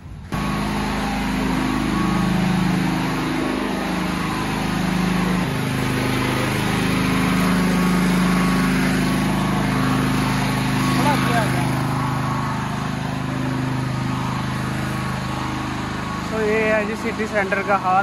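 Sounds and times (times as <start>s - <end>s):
small engine running: 0.1s - 18.0s.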